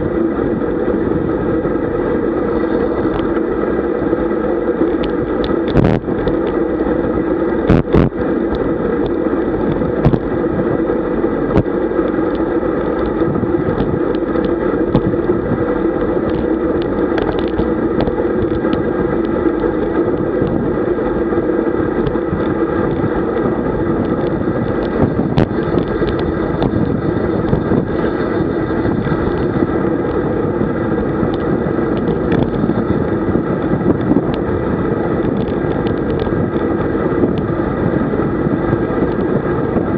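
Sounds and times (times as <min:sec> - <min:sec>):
tyre and road rumble: 0:00.0 - 0:39.9
wind rushing over microphone: 0:00.0 - 0:39.9.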